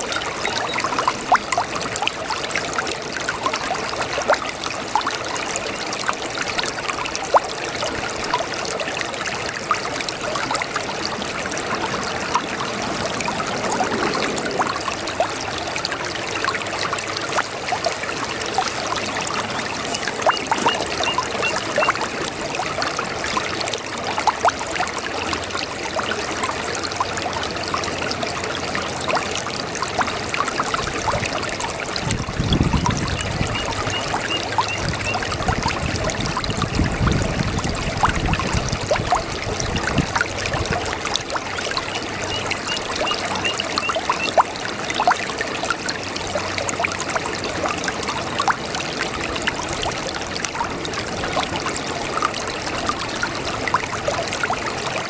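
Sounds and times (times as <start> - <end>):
brook water babbling: 0.0 - 55.0.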